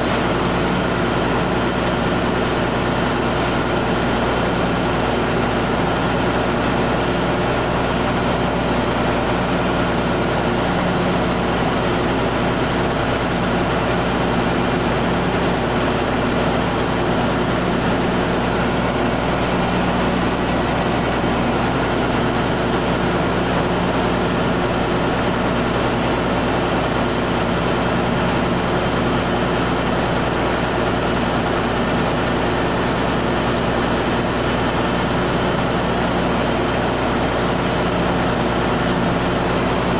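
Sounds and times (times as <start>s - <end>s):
engine room machinery drone: 0.0s - 39.9s.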